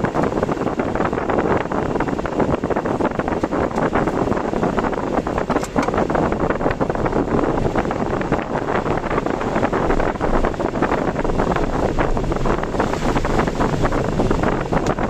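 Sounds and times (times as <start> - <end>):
rain pattering on a car: 0.0 - 15.0
wind buffeting a car: 0.0 - 15.0.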